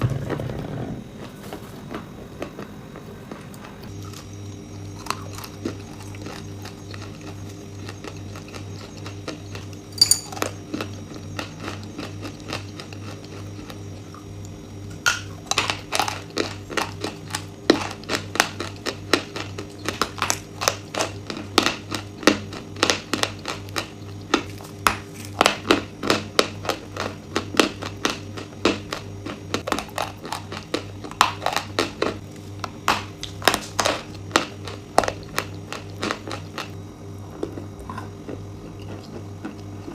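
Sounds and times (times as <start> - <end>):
crunching and chewing hard food: 0.0 - 39.9
low electrical hum: 0.0 - 39.9.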